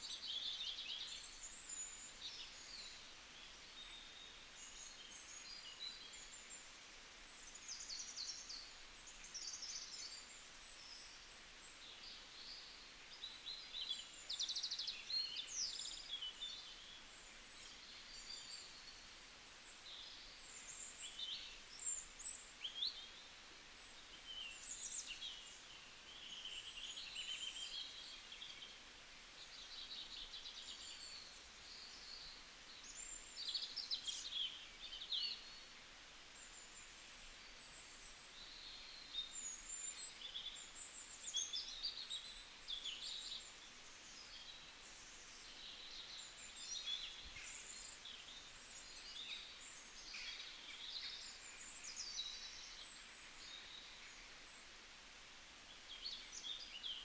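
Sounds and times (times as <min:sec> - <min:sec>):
faint forest hiss: 0:00.0 - 0:57.0.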